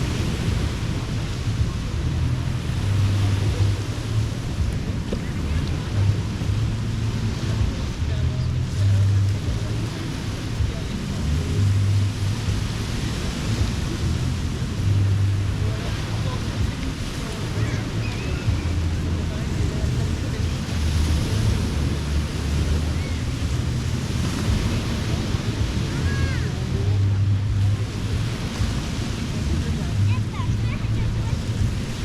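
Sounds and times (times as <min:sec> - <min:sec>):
ocean surf washing onto beach: 0:00.0 - 0:32.0
wind buffeting microphone: 0:00.0 - 0:32.0.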